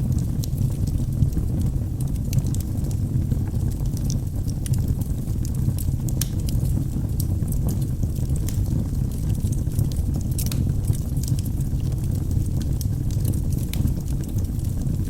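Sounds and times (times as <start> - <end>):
logs crackling and popping: 0.0 - 15.0
wood fire roaring: 0.0 - 15.0.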